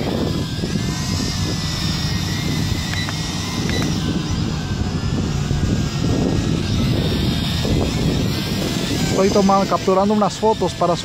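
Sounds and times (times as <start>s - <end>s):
drone motors whining: 0.0s - 11.0s
wind buffeting microphone: 0.0s - 11.0s.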